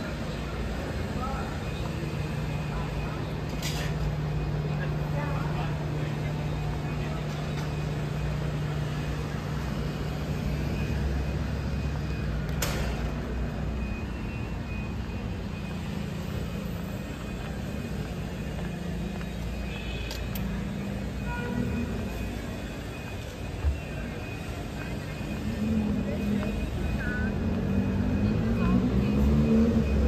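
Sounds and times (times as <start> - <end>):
traffic engines humming: 0.0 - 30.0.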